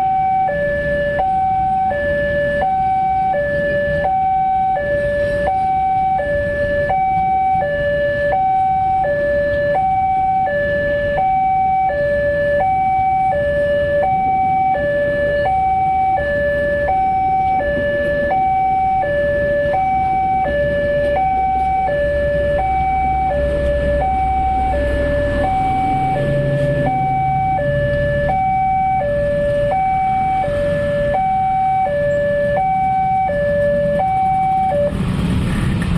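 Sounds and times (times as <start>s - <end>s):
level crossing two-tone alarm: 0.0s - 34.9s.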